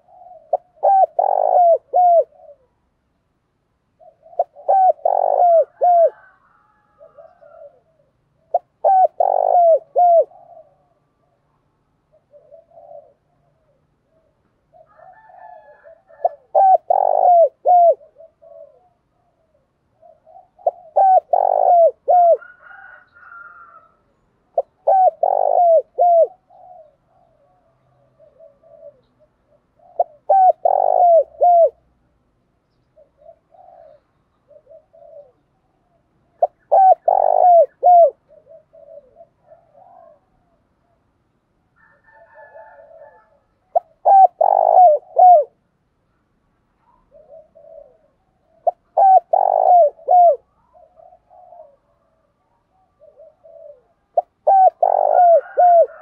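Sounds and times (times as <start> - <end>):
dove cooing: 0.0 - 3.0, 3.9 - 31.9, 32.8 - 41.0, 41.8 - 45.6, 46.8 - 56.0.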